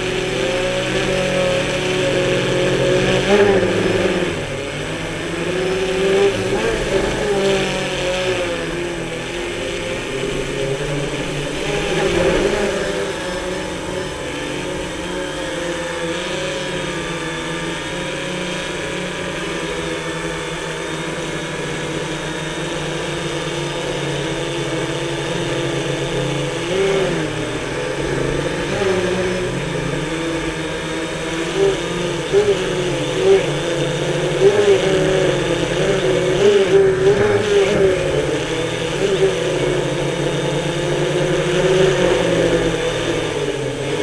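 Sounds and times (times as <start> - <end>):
drone propellers whirring: 0.0 - 44.0.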